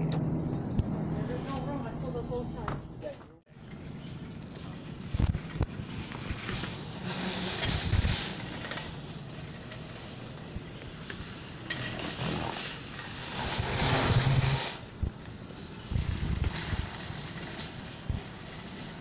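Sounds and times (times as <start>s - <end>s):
shopping cart rolling on floor: 3.5s - 19.0s.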